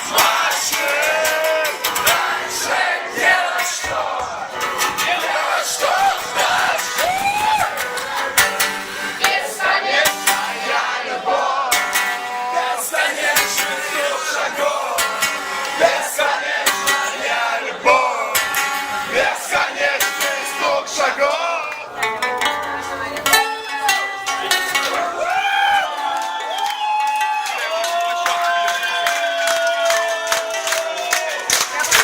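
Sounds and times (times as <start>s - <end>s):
live band with guitar: 0.0s - 25.9s
crowd singing and shouting: 0.0s - 26.6s, 27.4s - 32.0s.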